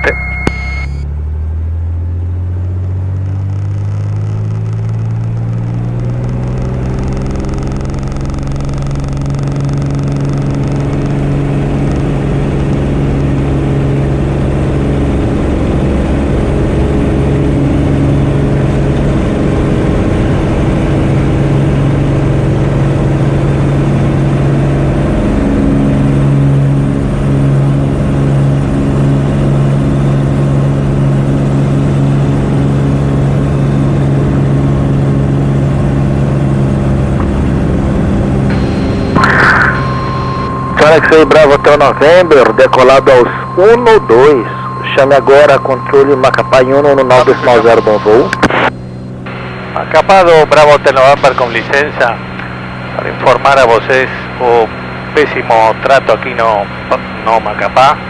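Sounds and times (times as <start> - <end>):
propeller plane engine at full power: 1.2 - 58.0.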